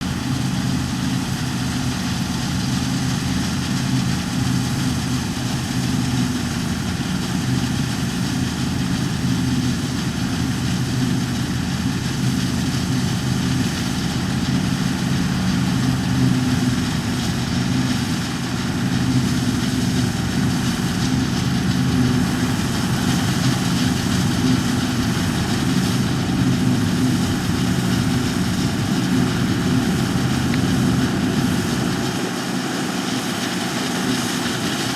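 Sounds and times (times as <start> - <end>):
machinery engine humming: 0.0 - 34.9.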